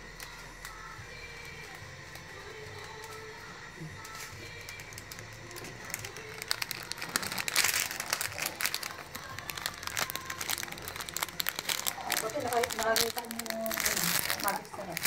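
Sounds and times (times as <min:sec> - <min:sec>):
plastic sachet crinkling: 0:00.0 - 0:15.0.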